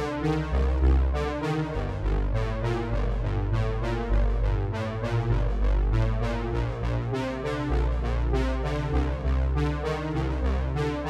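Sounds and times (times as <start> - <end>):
synthesizer and electric piano music: 0.0 - 11.0.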